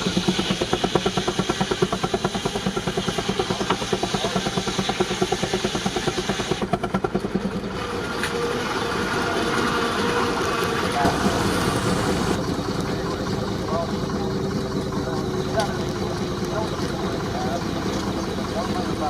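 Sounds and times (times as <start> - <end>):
steam engine exhaust beating: 0.0 - 19.0.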